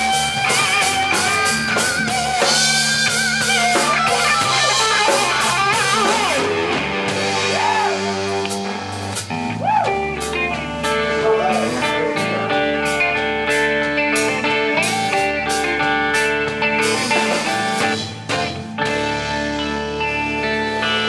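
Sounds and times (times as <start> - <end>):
heavy rock band playing: 0.0 - 21.0
lead electric guitar bending notes: 0.0 - 21.0.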